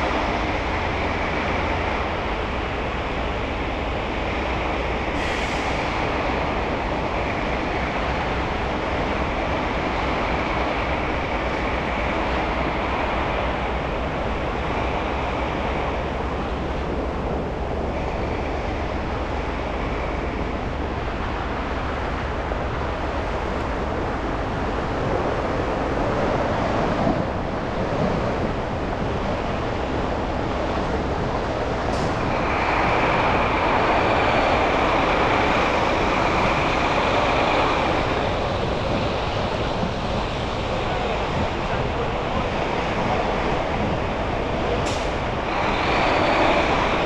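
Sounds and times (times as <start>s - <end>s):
passing traffic: 0.0s - 47.0s
road and tyre noise: 0.0s - 47.0s.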